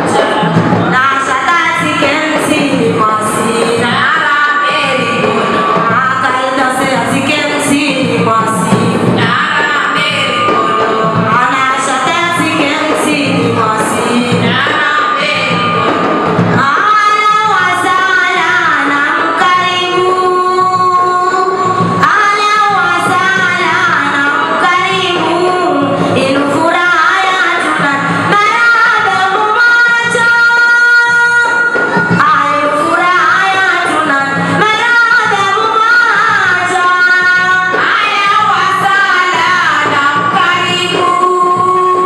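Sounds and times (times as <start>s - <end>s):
woman singing into a microphone: 0.0s - 42.0s.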